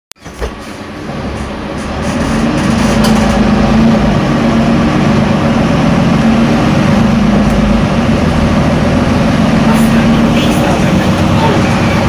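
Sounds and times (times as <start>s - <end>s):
bus diesel engine running: 0.2s - 12.0s
road and cabin rumble: 0.2s - 12.0s.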